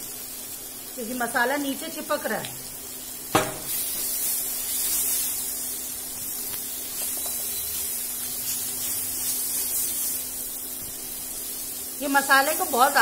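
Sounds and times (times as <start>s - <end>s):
masala sizzling in oil: 0.0s - 13.0s.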